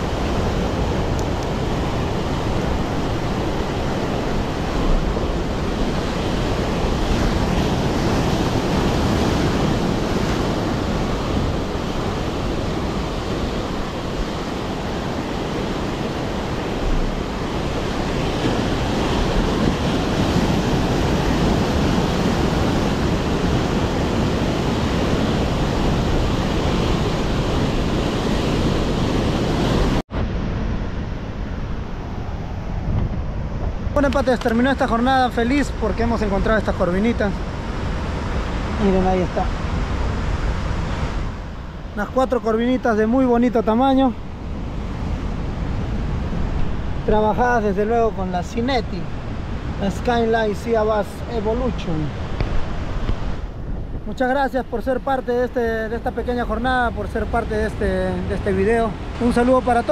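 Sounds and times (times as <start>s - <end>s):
ocean surf on beach: 0.0s - 59.9s
wind on microphone: 0.0s - 59.9s.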